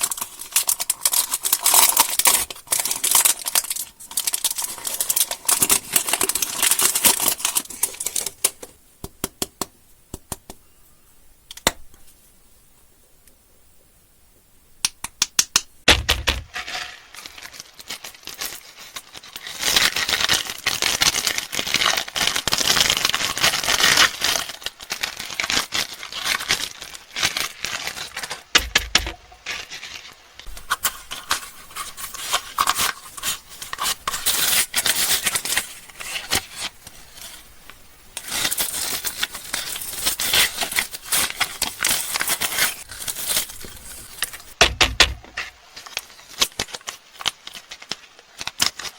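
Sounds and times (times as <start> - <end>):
candy wrappers crinkling: 0.0 - 8.7, 16.5 - 48.9.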